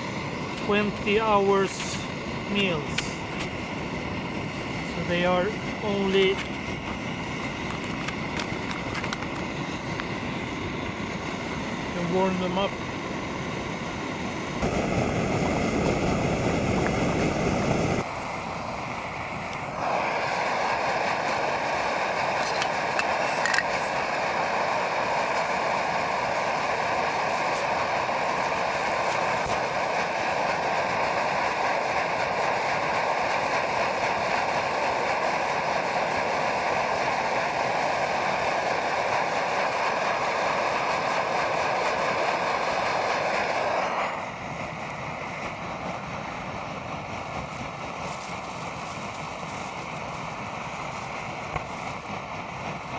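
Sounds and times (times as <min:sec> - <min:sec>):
gas stove burner roaring: 0:00.0 - 0:52.9
low rushing noise: 0:00.0 - 0:52.9.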